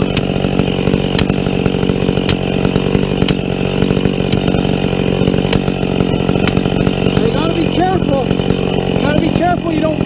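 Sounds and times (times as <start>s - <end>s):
chainsaw cutting tree trunk: 0.0s - 10.0s.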